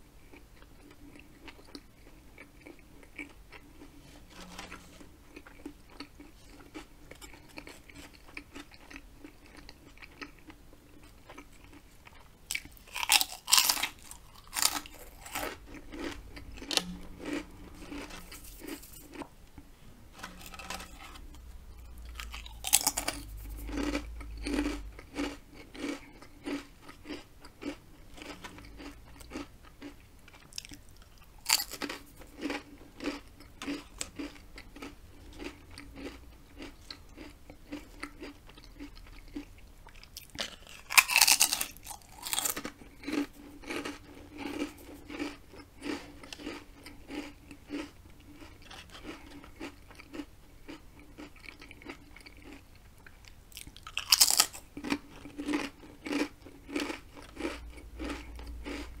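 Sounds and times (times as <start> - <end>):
person chewing: 0.2 - 59.0
potato chip crunching: 0.3 - 19.3, 20.2 - 59.0.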